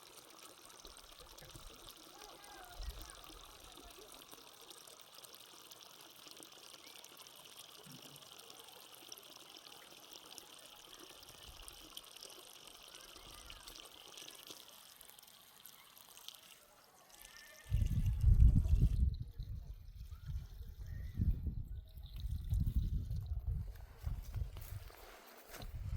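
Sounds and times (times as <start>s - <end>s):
water trickling: 0.0s - 25.9s.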